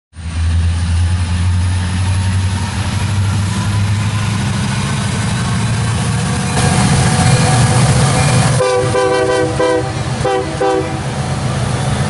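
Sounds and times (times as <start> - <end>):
diesel locomotive engines droning: 0.1 - 12.0.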